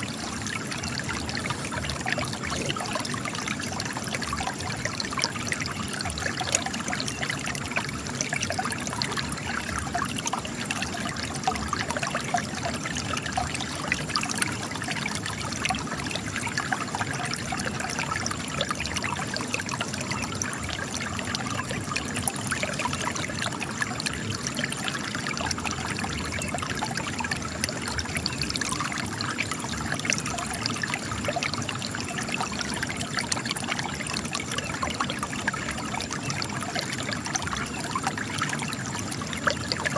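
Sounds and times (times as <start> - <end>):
spring water trickling over rock: 0.0 - 39.9.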